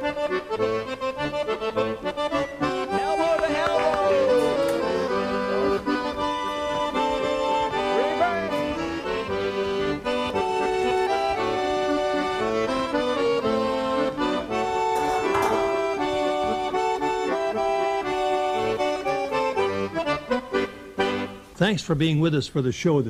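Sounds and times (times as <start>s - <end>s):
accordion music: 0.0s - 22.2s.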